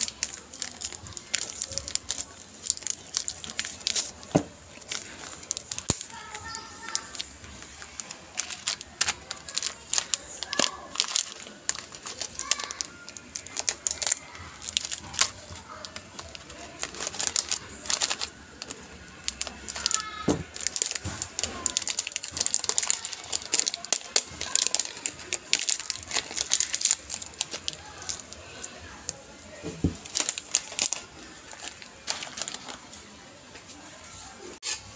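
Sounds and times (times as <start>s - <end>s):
scissors cutting plastic bag: 0.0s - 28.4s, 29.9s - 32.9s
plastic packaging crinkling: 0.0s - 34.9s.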